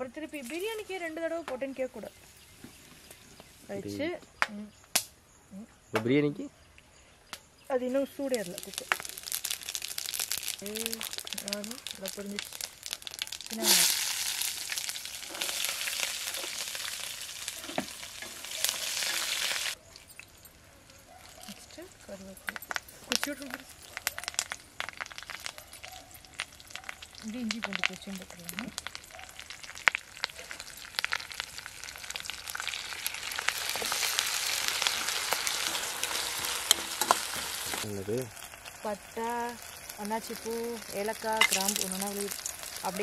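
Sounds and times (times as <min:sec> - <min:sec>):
shallots sizzling in hot oil: 0:00.0 - 0:04.0, 0:07.7 - 0:20.3, 0:21.3 - 0:43.0.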